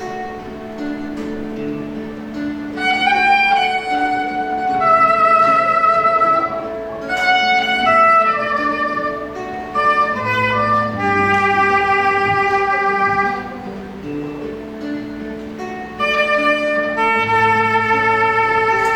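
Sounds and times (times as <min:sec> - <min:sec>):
melody of held notes: 0:00.0 - 0:18.9
plucked string accompaniment: 0:00.0 - 0:18.9.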